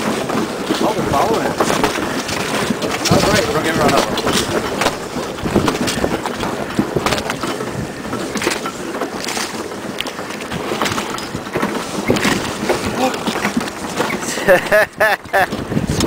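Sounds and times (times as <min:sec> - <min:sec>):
water slapping boat hull: 0:00.0 - 0:16.0
wind buffeting microphone: 0:00.0 - 0:16.0.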